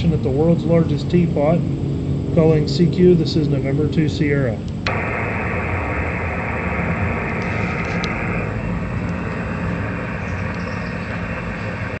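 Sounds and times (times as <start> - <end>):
radio static hiss: 2.4 - 12.0.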